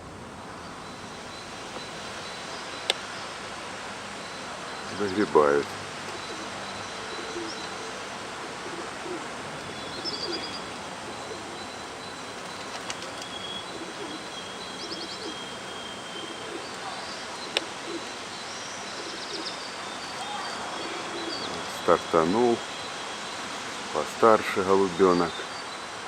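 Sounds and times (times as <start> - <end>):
background hiss: 0.0 - 26.0
small birds chirping: 0.4 - 26.0
pigeons cooing: 2.4 - 23.9.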